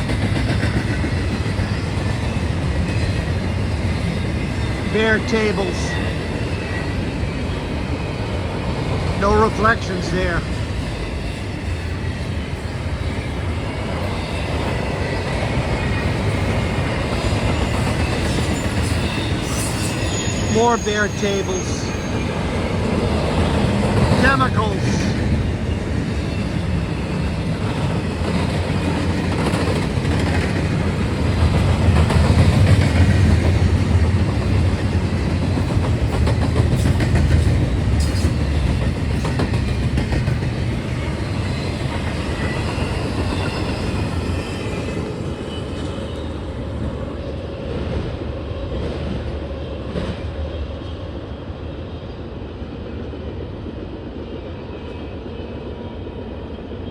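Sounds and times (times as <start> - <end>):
freight train rolling past: 0.0 - 56.9.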